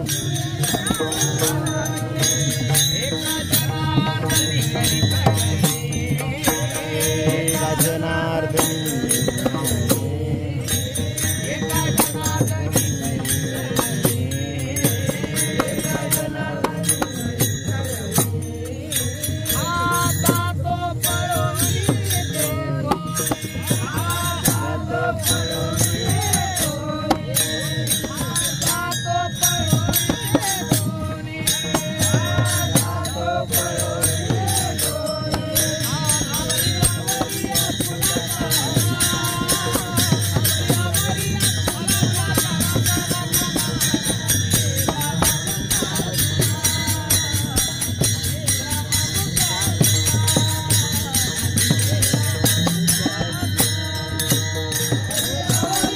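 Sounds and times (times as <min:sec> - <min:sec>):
men singing devotional song: 0:00.0 - 0:55.9
small hand cymbals clashing: 0:00.0 - 0:55.9.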